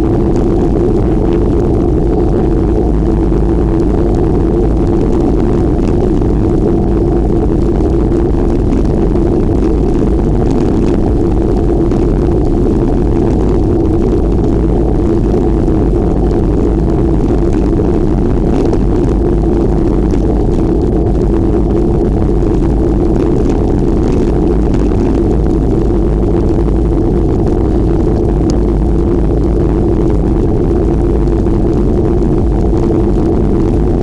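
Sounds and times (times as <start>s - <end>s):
low rumble: 0.0s - 34.0s
wind noise on microphone: 0.0s - 34.0s.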